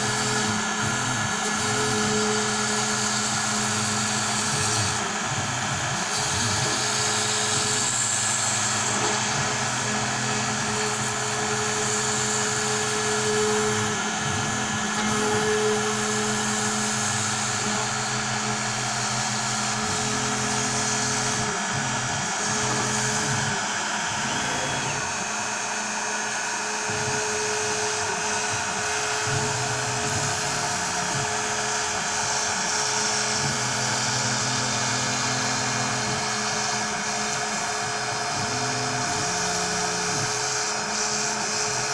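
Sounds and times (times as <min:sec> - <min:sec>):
router spindle whine: 0:00.0 - 0:41.9.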